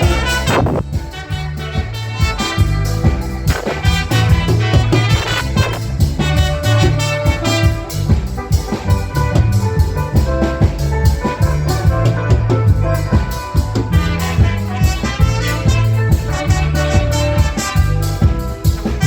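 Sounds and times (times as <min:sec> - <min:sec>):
bass guitar: 0:00.0 - 0:19.0
drum kit steady beat: 0:00.0 - 0:19.0
keyboard or guitar chords: 0:00.0 - 0:19.0.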